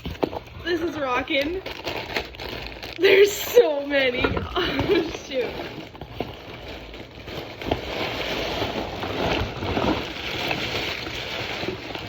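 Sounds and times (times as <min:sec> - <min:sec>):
bones rustling and scraping: 0:00.0 - 0:12.0.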